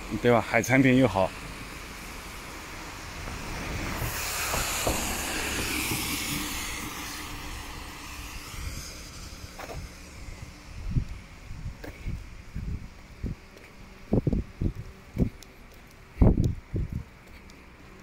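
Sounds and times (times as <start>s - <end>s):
tyre hiss on wet road: 0.0s - 16.3s.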